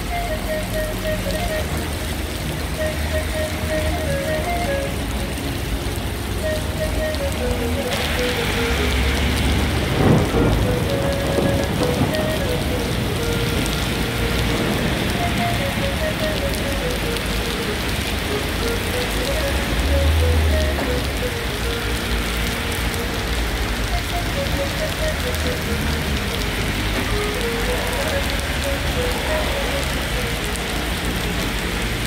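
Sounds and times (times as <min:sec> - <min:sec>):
faint melody: 0:00.0 - 0:32.0
heavy rain on pavement: 0:00.0 - 0:32.0.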